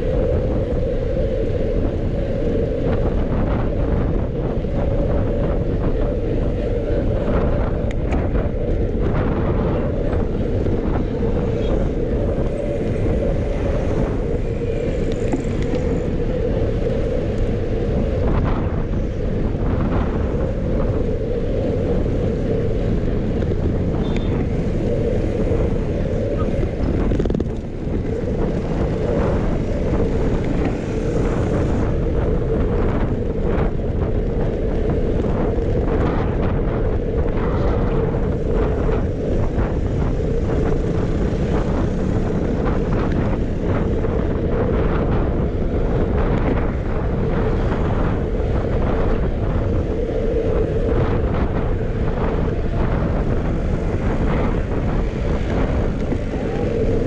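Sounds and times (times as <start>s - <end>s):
low road rumble: 0.0s - 57.0s
wind buffeting microphone: 0.0s - 57.0s.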